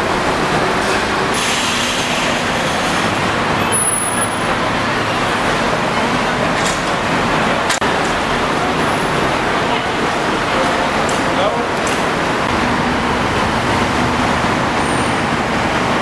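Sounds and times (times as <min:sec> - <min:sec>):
buses running: 0:00.0 - 0:16.0.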